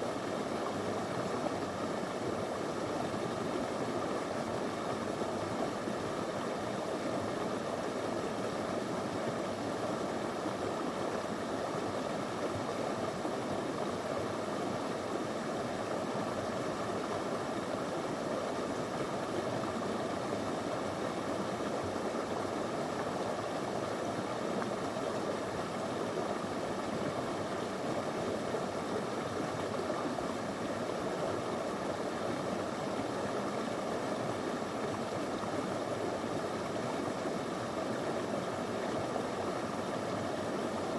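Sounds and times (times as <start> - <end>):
river flowing over stones: 0.1 - 40.9.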